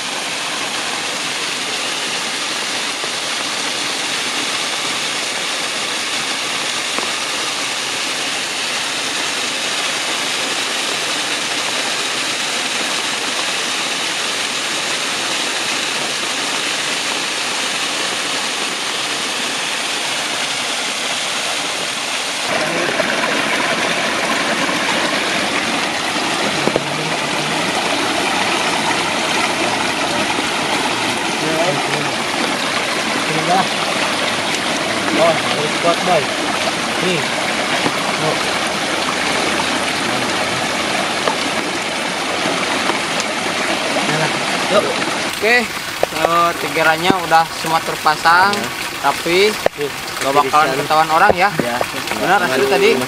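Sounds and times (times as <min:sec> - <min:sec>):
flowing river water: 0:00.0 - 0:53.0.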